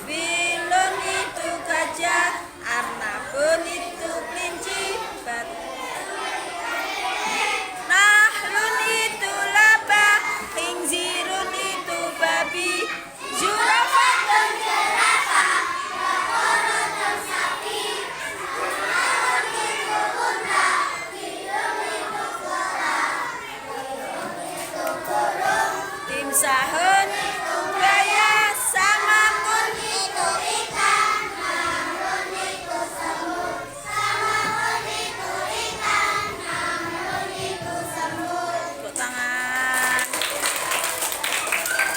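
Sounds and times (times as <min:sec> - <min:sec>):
children singing together: 0:00.0 - 0:39.5.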